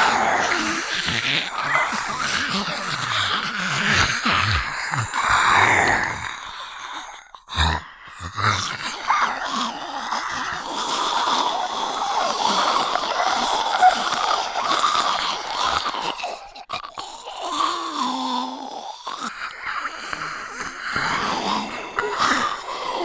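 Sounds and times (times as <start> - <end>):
zombie growling and groaning: 0.0 - 23.0.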